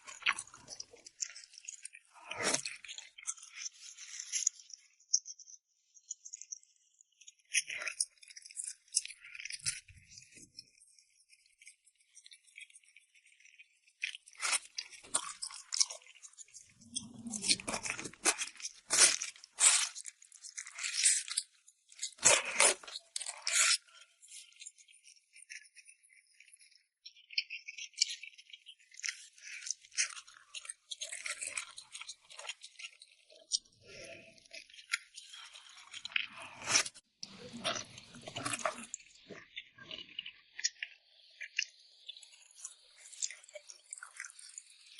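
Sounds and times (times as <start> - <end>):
chewing noodles: 0.0 - 4.8, 7.4 - 44.9.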